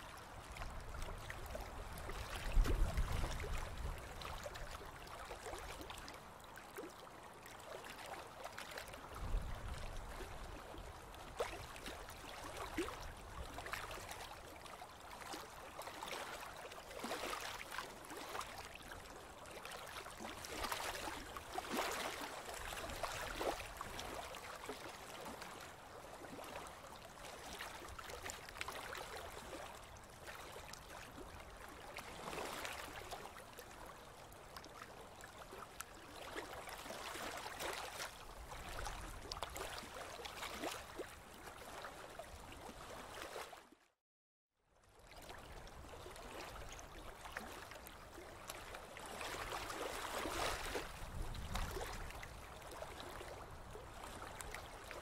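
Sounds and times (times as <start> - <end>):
river water flowing and lapping: 0.0 - 44.0, 44.7 - 55.0.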